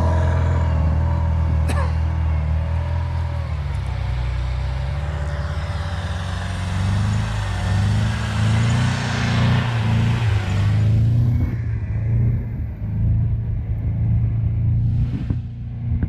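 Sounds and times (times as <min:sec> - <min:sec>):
engine revving under load: 0:00.0 - 0:16.0.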